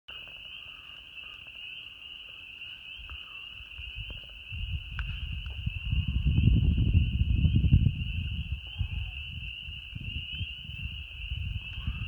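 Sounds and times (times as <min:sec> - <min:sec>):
frogs chorus: 0:00.1 - 0:12.0.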